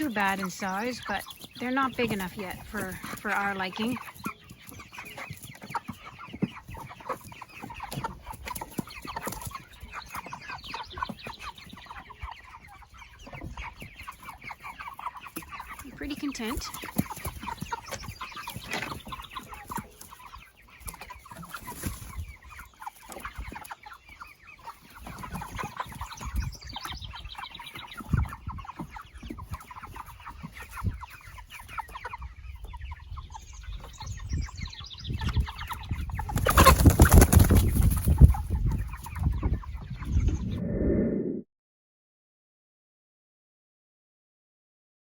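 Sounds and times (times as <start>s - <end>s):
chickens clucking: 0.0s - 41.4s.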